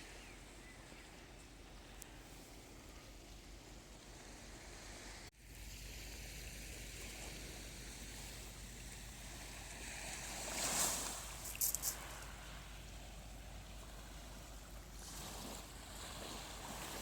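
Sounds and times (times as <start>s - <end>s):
sea surf washing on shore: 2.2s - 17.0s.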